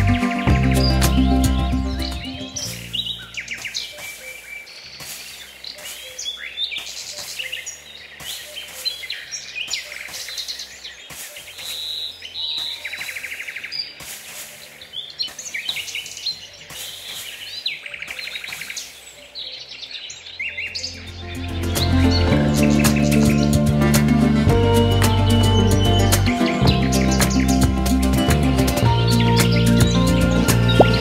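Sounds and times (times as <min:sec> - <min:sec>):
quiet background music: 0:00.0 - 0:18.5, 0:20.2 - 0:31.0
birds chirping and singing: 0:00.0 - 0:31.0.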